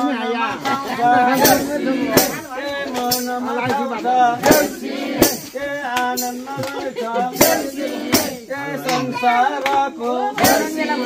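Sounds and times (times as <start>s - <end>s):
group call-and-response singing: 0.0s - 11.0s
sharp percussive hits: 0.6s - 11.0s.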